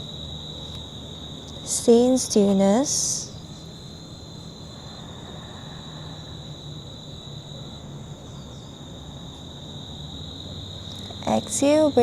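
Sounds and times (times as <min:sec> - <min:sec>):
high-pitched insect chorus: 0:00.0 - 0:12.0
low outdoor rumble: 0:00.0 - 0:12.0.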